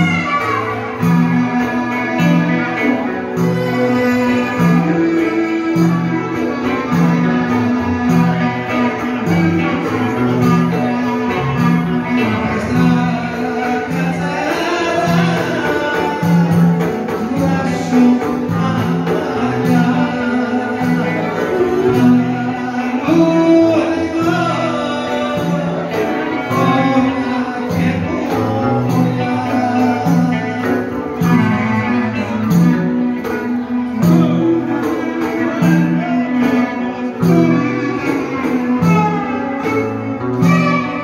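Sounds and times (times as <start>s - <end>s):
live dance band music: 0.0s - 41.0s.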